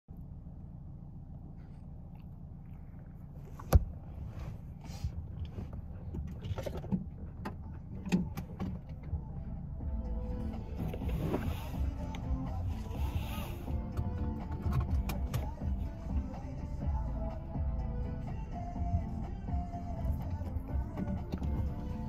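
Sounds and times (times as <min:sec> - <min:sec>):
car idling: 0:00.1 - 0:22.0.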